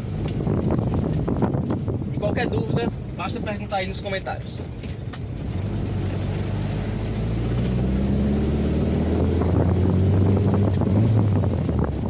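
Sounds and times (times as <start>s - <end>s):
car engine pulling: 0.0s - 12.0s.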